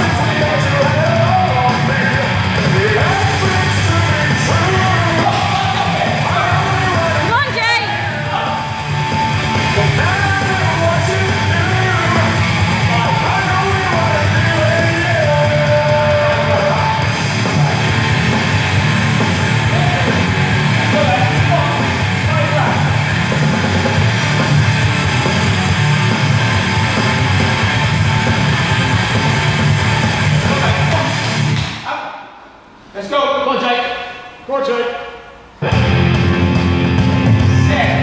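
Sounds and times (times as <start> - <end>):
loud rock music: 0.0 - 31.8, 35.6 - 38.0.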